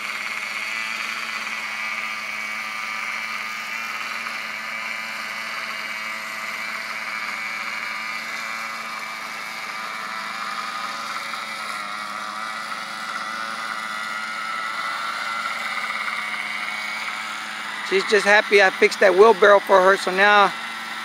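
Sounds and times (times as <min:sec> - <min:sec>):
small gasoline engine running: 0:00.0 - 0:21.0.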